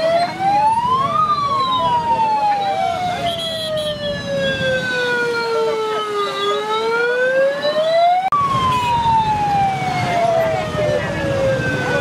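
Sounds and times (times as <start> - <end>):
emergency siren wailing: 0.0 - 12.0
low traffic rumble: 0.0 - 12.0.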